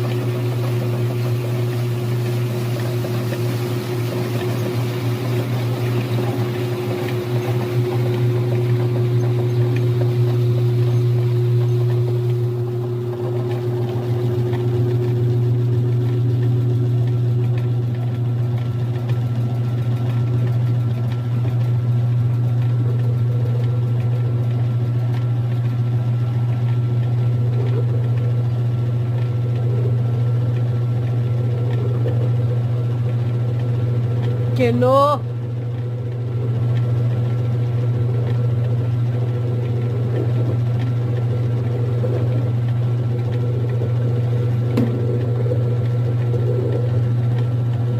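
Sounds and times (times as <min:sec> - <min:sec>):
washing machine spin cycle hum: 0:00.0 - 0:47.9.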